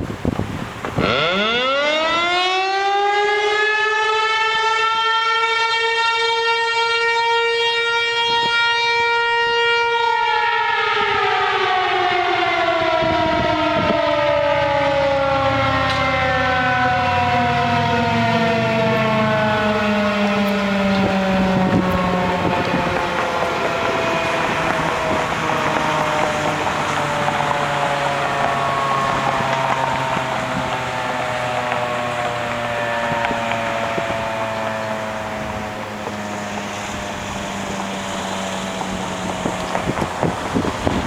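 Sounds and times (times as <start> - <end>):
warning siren winding: 1.0 - 41.0.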